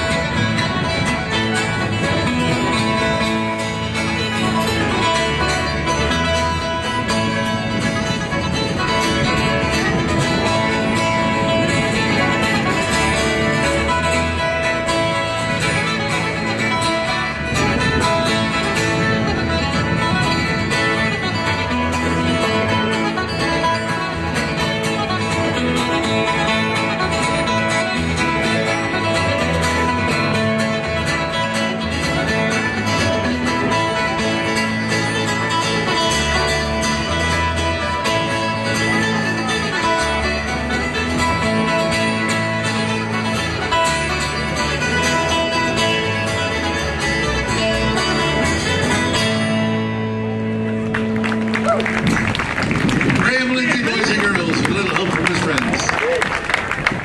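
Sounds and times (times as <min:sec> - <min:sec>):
small plucked string instrument: 0:00.0 - 0:53.1
strummed acoustic guitar: 0:00.0 - 0:55.9
electric bass guitar: 0:00.0 - 0:57.0
fiddle: 0:00.0 - 0:57.0.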